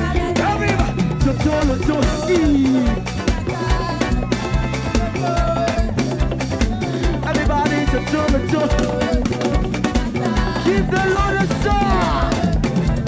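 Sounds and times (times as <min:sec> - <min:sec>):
drum kit beat: 0:00.0 - 0:13.0
live band music: 0:00.0 - 0:13.0
sliding melody line: 0:00.0 - 0:13.0.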